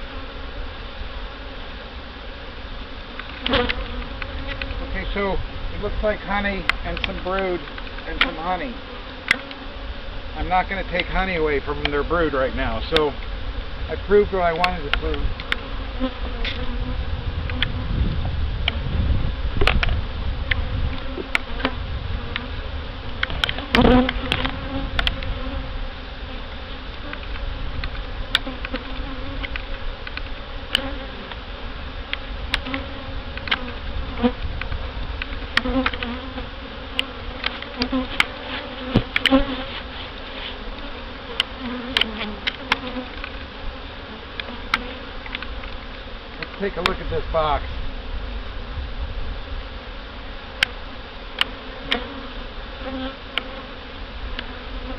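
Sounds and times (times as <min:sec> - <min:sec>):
honey bees buzzing: 0:00.0 - 0:54.9.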